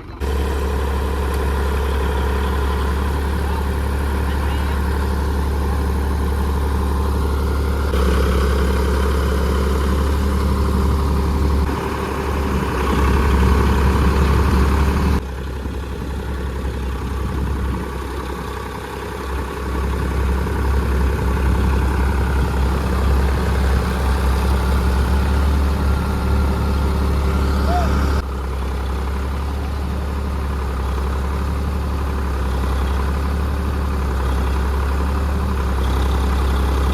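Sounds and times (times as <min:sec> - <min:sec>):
tractor diesel engines running: 0:00.0 - 0:36.9.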